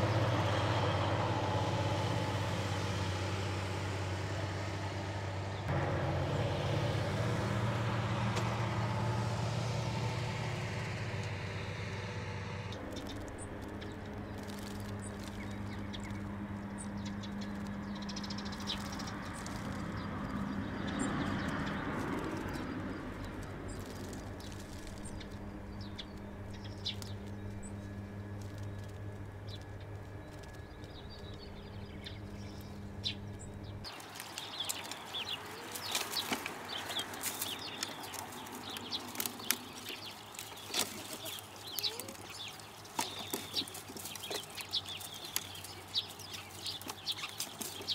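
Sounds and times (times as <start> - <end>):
steady low hum: 0.0 - 47.9
birds pecking on wood: 6.7 - 47.9
wing flaps: 8.3 - 47.9.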